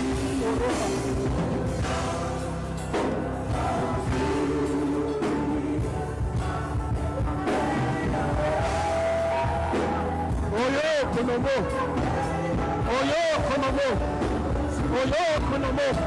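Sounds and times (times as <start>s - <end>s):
instrumental backing: 0.0s - 16.0s
voices singing held notes: 0.0s - 16.0s.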